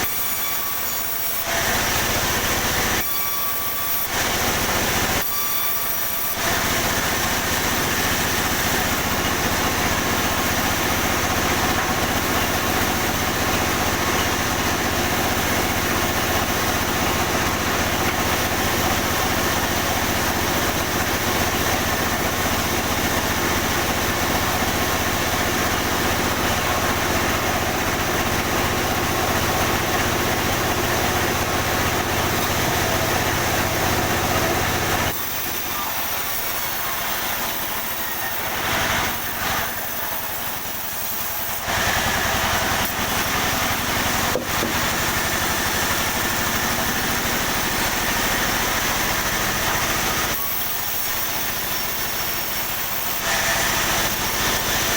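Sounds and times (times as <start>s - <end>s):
sawmill machinery sawing timber: 0.0s - 54.9s.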